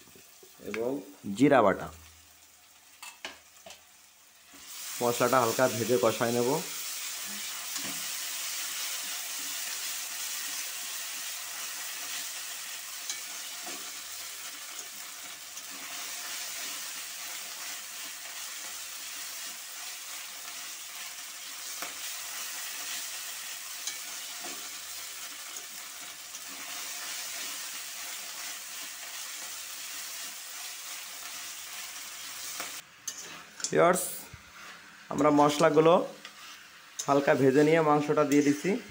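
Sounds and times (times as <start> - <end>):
paste sizzling in hot oil: 0.0 - 38.9.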